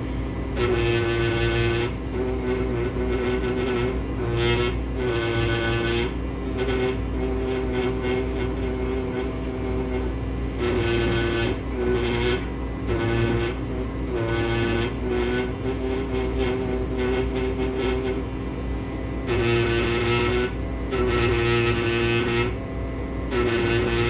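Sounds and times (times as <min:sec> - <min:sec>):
dust vacuum low hum: 0:00.0 - 0:24.0
pneumatic air scribe buzzing: 0:00.0 - 0:24.0.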